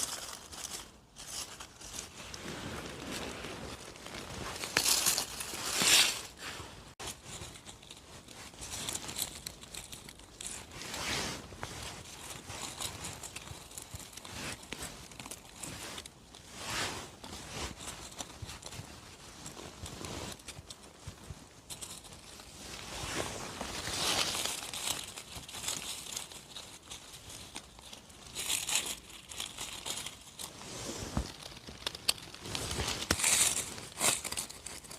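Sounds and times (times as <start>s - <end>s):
rustling of leaf litter: 0.0s - 34.9s.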